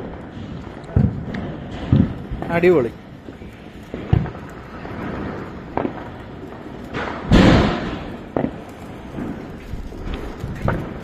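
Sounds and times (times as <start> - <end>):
firecrackers banging: 0.0 - 11.0
ground firework hissing: 0.0 - 11.0.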